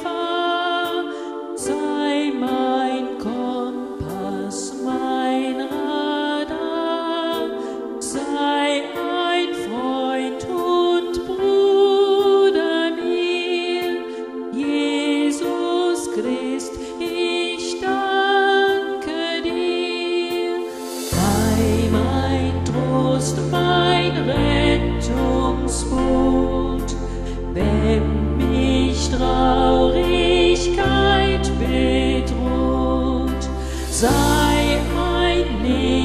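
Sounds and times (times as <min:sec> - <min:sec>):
keyboard playing slow hymn-like melody: 0:00.0 - 0:36.0.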